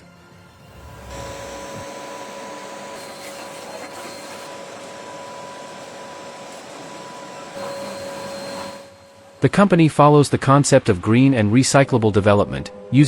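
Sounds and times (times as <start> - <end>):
industrial machine whine: 0.0 - 13.0.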